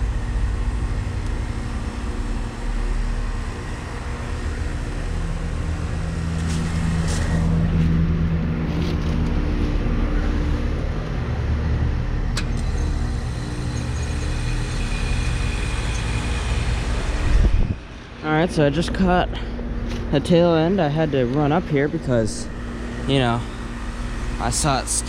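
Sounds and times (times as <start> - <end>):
heat pump compressor humming: 0.0 - 25.0.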